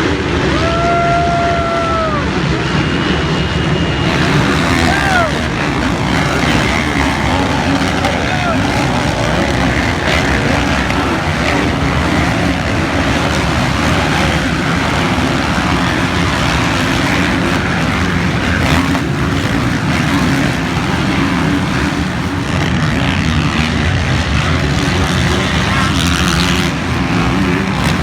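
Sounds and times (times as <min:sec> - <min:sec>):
dirt bike engines running: 0:00.0 - 0:28.0.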